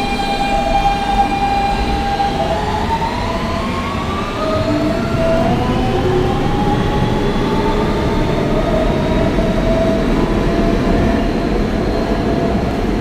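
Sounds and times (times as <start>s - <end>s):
subway car wheels rumbling: 0.0s - 13.0s.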